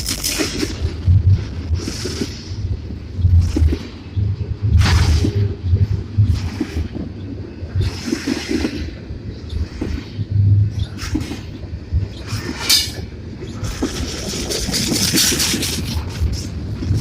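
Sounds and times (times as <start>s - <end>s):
train clattering and knocks: 0.0s - 17.0s
train wheels rumbling on rail: 0.0s - 17.0s.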